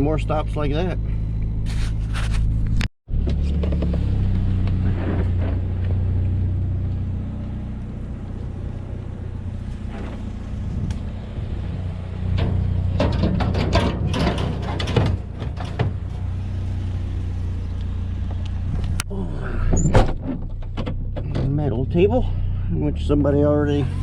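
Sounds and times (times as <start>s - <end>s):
pickup truck driving: 0.2s - 24.0s.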